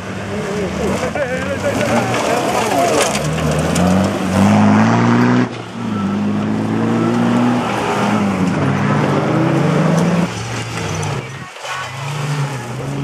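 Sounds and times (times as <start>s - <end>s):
engine revving hard: 0.7s - 13.0s.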